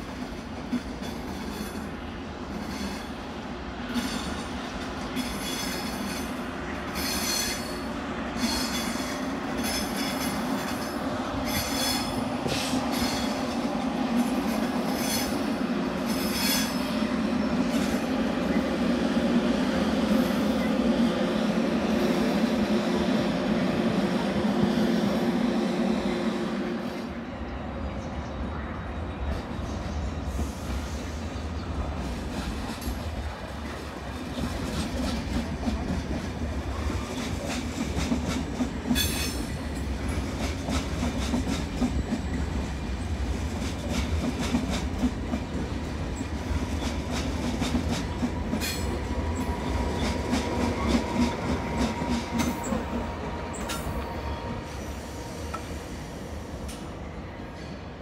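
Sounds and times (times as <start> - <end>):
train rumbling on tracks: 0.0 - 58.0.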